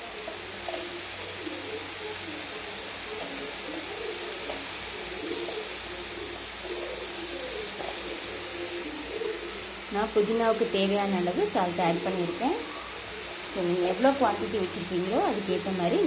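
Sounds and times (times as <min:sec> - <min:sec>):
bird cooing: 0:00.0 - 0:16.0
leaves sizzling in a pan: 0:00.0 - 0:16.0.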